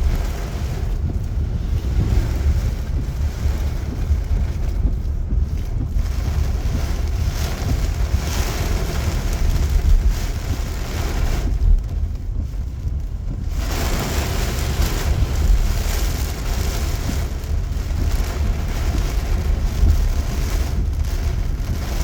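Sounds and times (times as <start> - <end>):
heavy rain: 0.0 - 22.0
wind buffeting microphone: 0.0 - 22.0.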